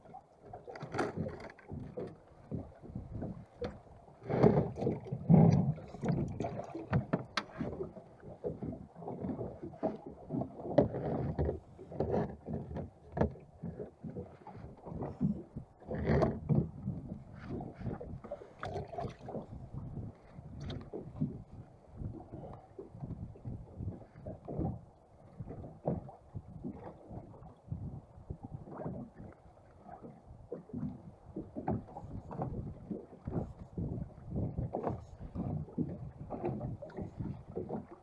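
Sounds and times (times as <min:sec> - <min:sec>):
water slapping boat hull: 0:00.0 - 0:38.0.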